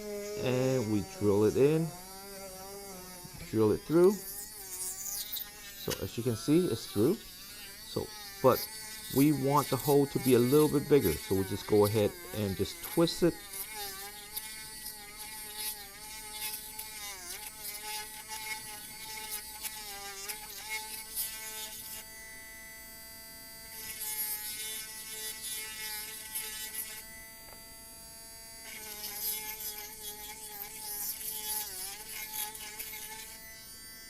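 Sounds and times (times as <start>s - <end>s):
drill bit scraping board: 0.0s - 22.1s, 23.8s - 27.1s, 28.6s - 33.7s
electric drill whining: 0.0s - 34.0s.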